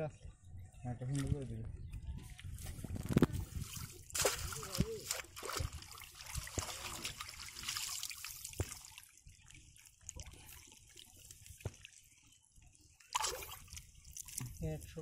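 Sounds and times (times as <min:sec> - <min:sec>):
water trickling and splashing: 0:01.0 - 0:15.0.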